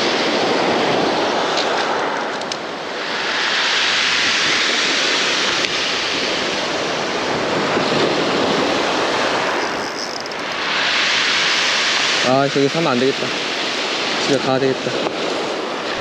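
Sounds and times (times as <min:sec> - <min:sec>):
waves washing on pebble shore: 0:00.0 - 0:16.0.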